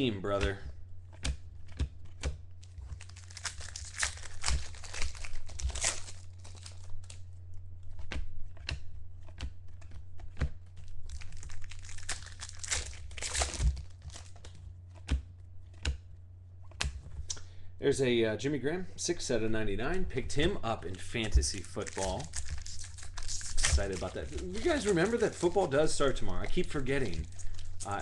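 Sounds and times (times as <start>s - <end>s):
steady low hum: 0.0s - 28.0s
cards clicking and rustling: 0.4s - 16.1s, 20.4s - 28.0s.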